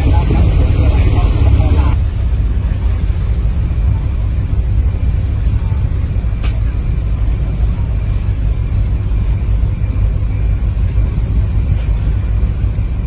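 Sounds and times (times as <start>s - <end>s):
boat engine rumbling: 0.0s - 13.0s
water wash: 0.0s - 13.0s
wind noise: 0.0s - 13.0s.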